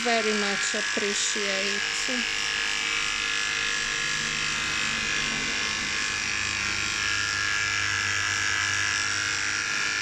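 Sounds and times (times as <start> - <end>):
electric clippers buzzing: 0.0 - 10.0.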